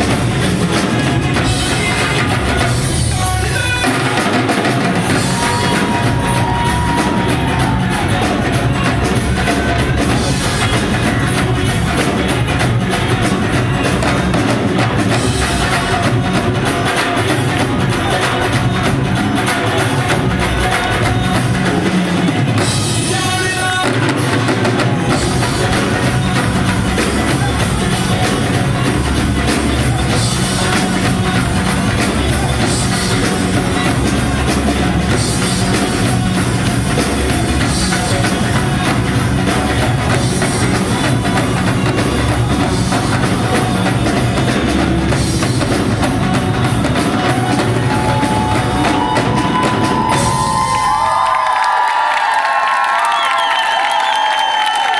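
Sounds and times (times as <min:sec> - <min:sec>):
dhol drums: 0:00.0 - 0:54.9
drum kit: 0:00.0 - 0:54.9.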